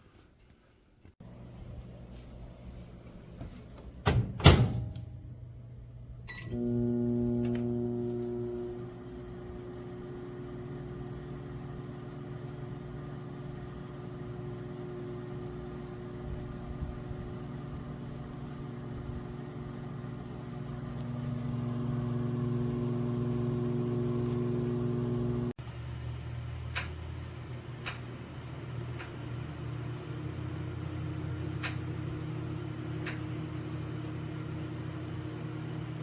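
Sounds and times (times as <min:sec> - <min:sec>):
microwave oven humming: 0:01.2 - 0:36.0.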